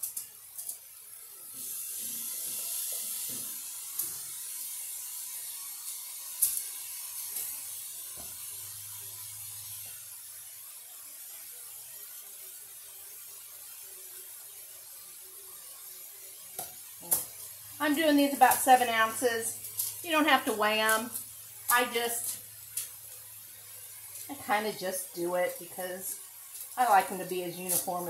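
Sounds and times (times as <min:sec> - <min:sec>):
meat sizzling in a skillet: 0:00.0 - 0:28.0.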